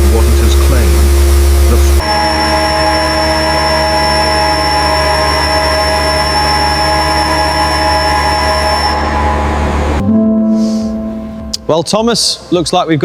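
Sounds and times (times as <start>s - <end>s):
machine drone with high tones: 0.0s - 11.6s.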